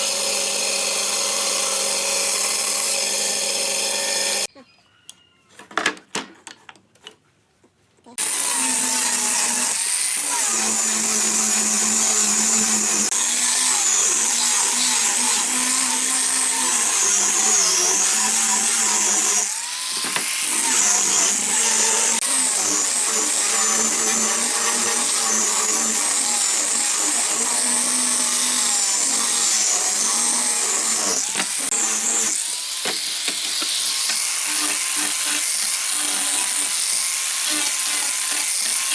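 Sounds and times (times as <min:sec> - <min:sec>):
electric power tool running: 0:00.0 - 0:04.5, 0:08.2 - 0:38.9.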